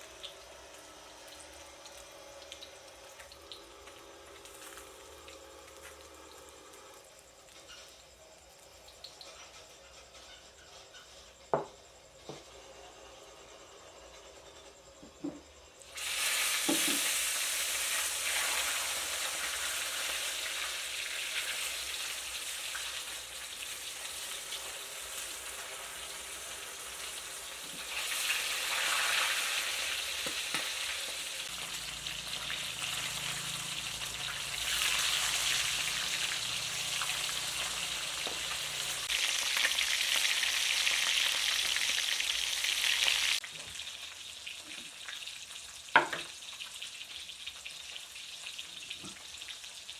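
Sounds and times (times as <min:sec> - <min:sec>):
food sizzling in hot oil: 0:00.0 - 0:11.7, 0:15.7 - 0:49.9.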